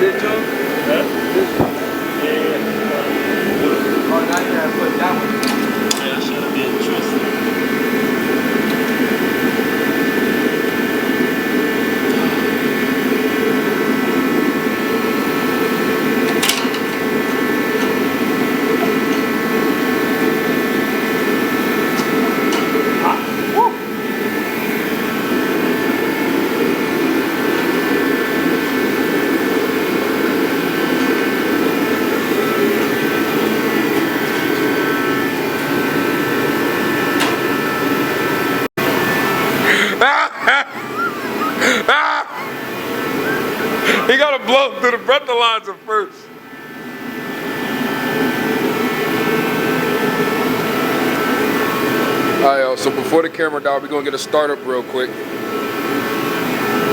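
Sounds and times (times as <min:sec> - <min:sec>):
machine drone with high whine: 0:00.0 - 0:56.9
mechanical hum: 0:00.0 - 0:56.9.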